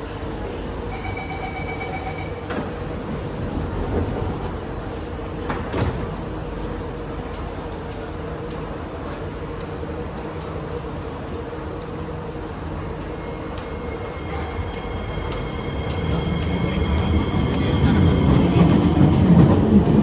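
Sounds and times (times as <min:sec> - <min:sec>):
train cabin rumble: 0:02.2 - 0:20.0.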